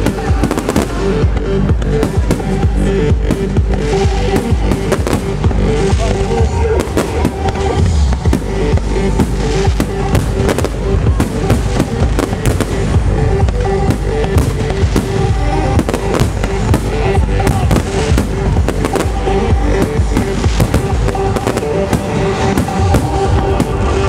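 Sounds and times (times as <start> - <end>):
loud trance music: 0.0 - 24.0.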